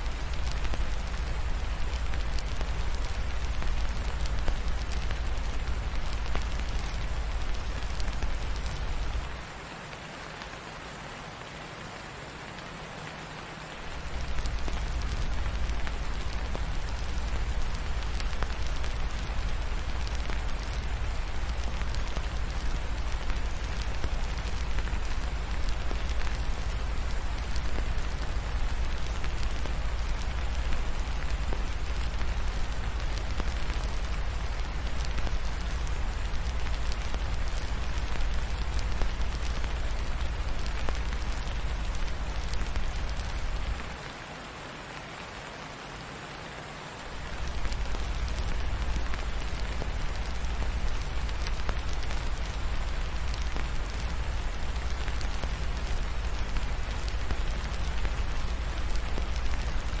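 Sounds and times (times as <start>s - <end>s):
fireplace crackling: 0.0s - 10.5s, 12.6s - 44.2s, 47.0s - 60.0s
steady rain: 0.0s - 60.0s.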